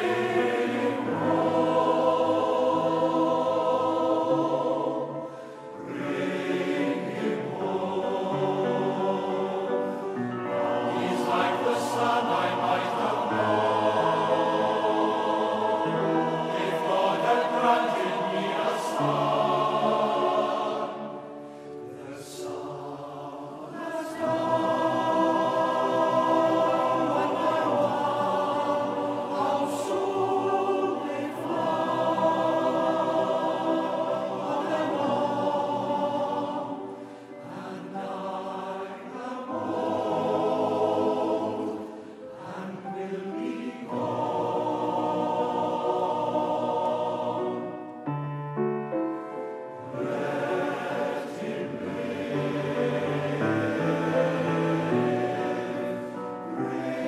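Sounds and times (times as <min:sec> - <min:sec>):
male voice choir singing: 0:00.0 - 0:47.7, 0:49.9 - 0:57.0.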